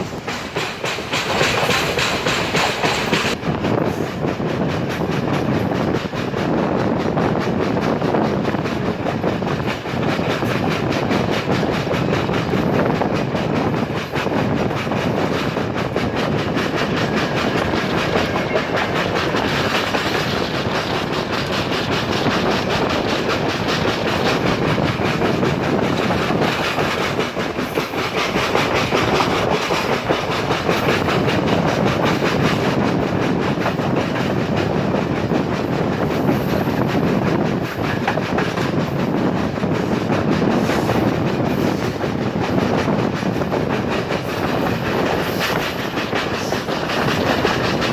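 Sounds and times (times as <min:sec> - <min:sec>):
passenger train running at speed: 0:00.0 - 0:47.9
wheels clicking over rail joints: 0:00.0 - 0:47.9.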